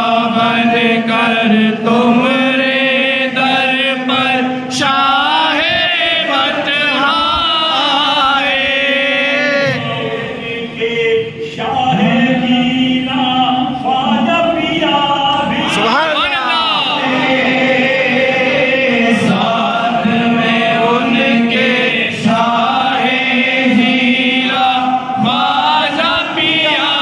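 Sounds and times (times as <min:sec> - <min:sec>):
men chanting a devotional song: 0:00.0 - 0:27.0.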